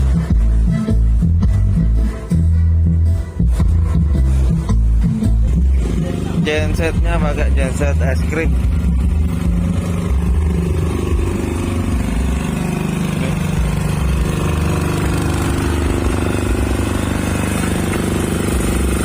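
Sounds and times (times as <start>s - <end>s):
generator engine rumbling: 0.0s - 19.0s.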